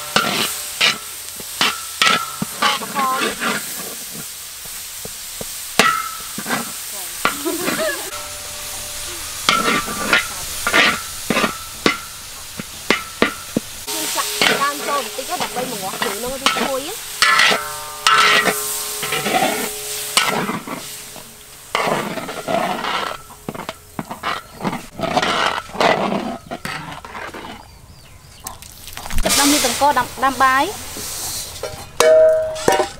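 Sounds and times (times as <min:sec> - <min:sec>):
metal spatula scraping a wok: 0:00.0 - 0:04.9, 0:05.8 - 0:27.8, 0:29.2 - 0:32.9
food sizzling: 0:00.0 - 0:27.1, 0:28.7 - 0:32.8.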